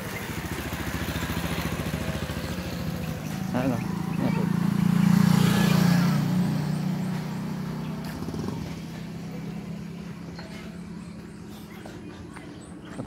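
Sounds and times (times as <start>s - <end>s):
vehicle engine passing: 0.0s - 12.9s.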